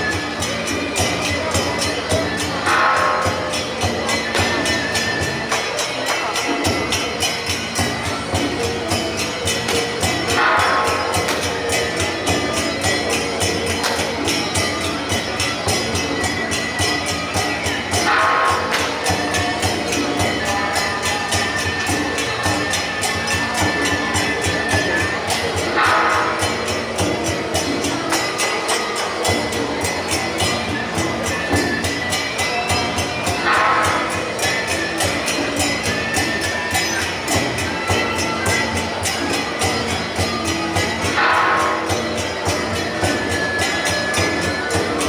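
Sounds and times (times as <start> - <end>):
drums and cymbals beating: 0.0 - 45.0.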